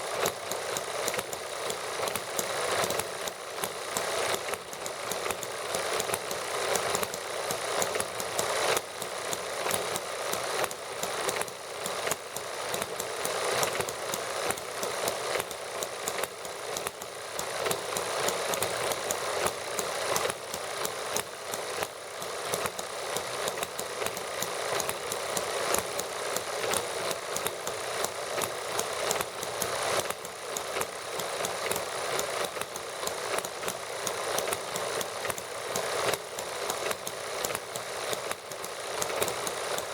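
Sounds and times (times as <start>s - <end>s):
small model engines running: 0.0s - 39.9s.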